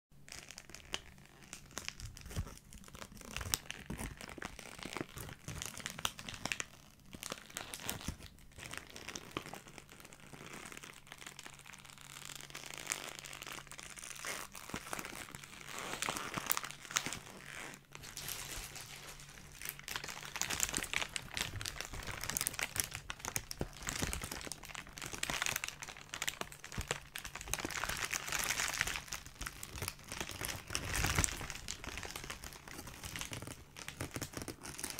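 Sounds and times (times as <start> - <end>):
plastic bag crinkling: 0.3 - 34.9.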